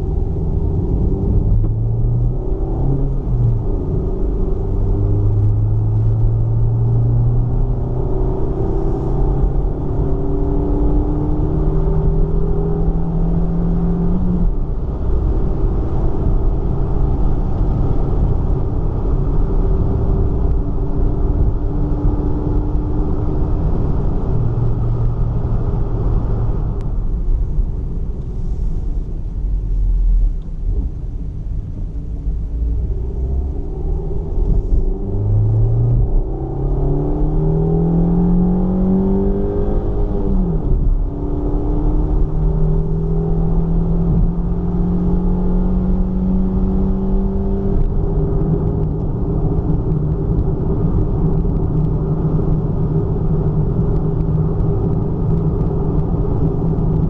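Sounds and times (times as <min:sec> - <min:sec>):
road rumble: 0:00.0 - 0:57.0.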